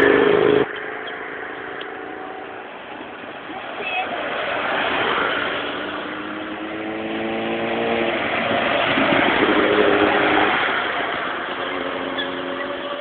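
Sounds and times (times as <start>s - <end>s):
motorcycle passing close by: 0.0s - 2.7s, 4.8s - 13.0s.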